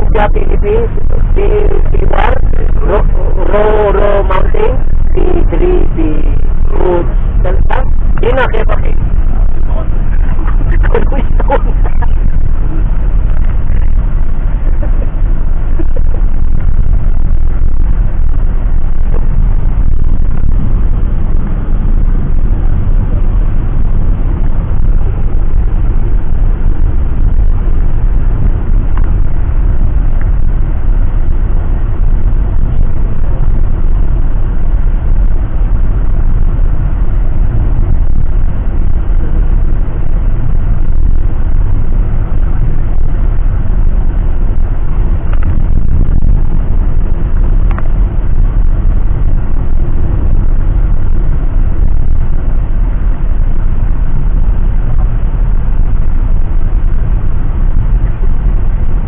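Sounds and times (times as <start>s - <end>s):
vehicle rumble from inside cabin: 0.0s - 59.0s.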